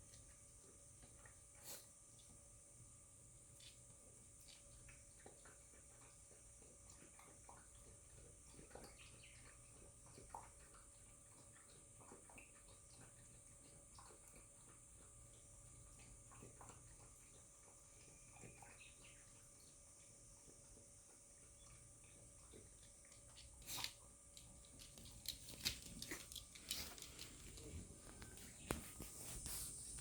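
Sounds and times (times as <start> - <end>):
dog eating with wet smacks: 3.4 - 29.4.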